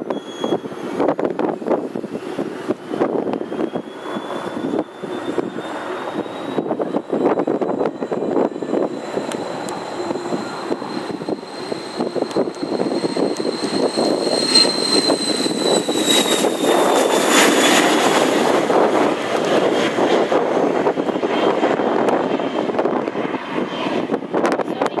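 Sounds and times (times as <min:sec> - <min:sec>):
jet engine roar: 0:00.0 - 0:25.0
jet engines high whine: 0:00.0 - 0:25.0.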